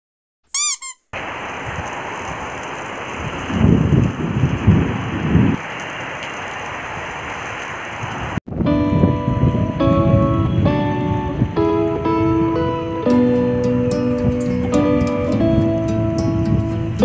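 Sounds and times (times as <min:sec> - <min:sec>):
heavy rain pouring: 0:01.2 - 0:17.0.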